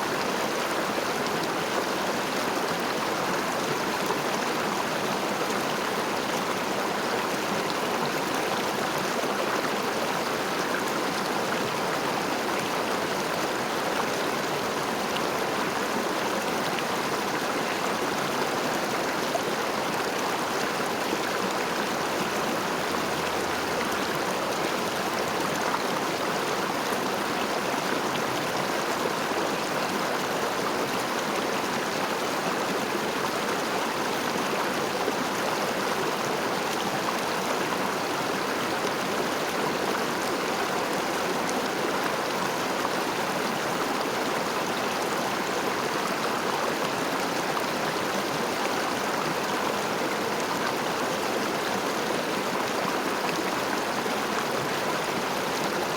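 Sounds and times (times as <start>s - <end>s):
river water flowing over stones: 0.0s - 55.9s.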